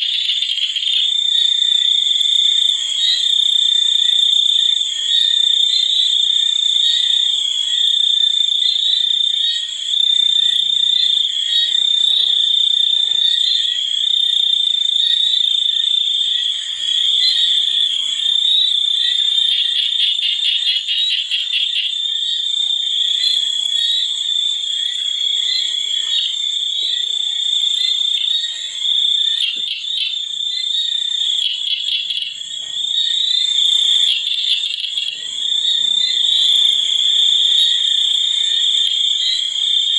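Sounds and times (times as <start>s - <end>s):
high-pitched insect trill: 0.0s - 39.9s
pulsed insect calls: 0.0s - 39.9s.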